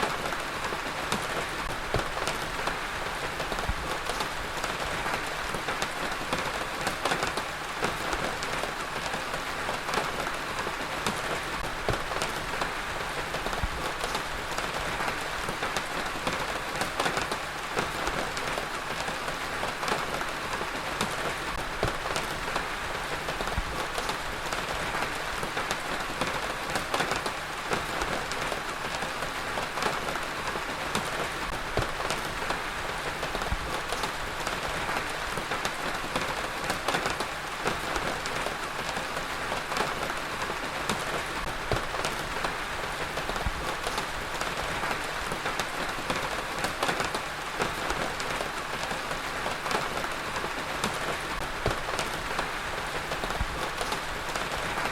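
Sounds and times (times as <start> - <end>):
heavy rain on hard surfaces: 0.0 - 54.9.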